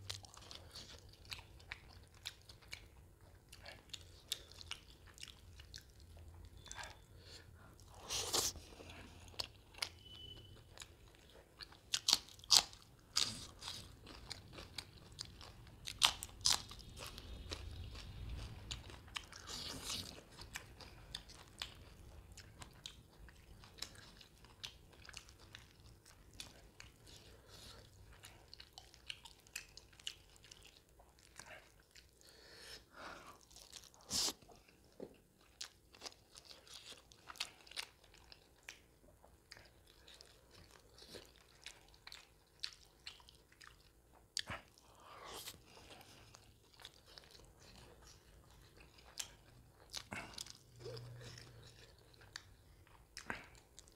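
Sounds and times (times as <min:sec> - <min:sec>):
close chewing and biting: 0:00.0 - 0:53.9.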